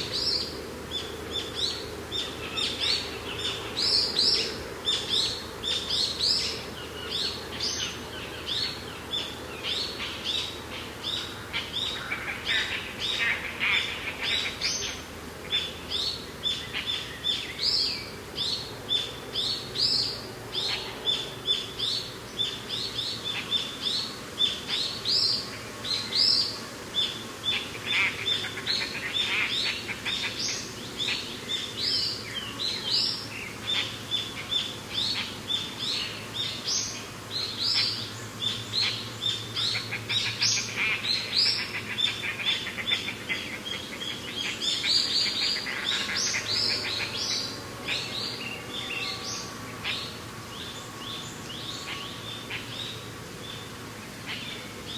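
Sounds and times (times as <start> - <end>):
birds chirping and singing: 0.0 - 54.9.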